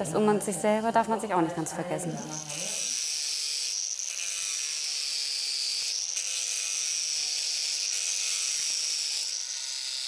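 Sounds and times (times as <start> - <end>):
angle grinder whining: 1.9 - 10.0.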